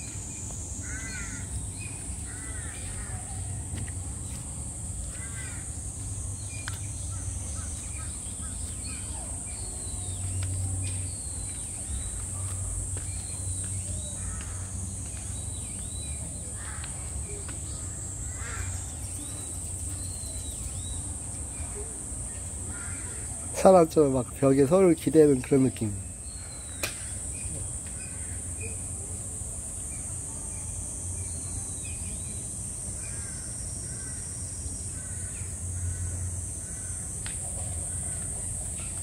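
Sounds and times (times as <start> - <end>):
steady high hiss: 0.0 - 39.0.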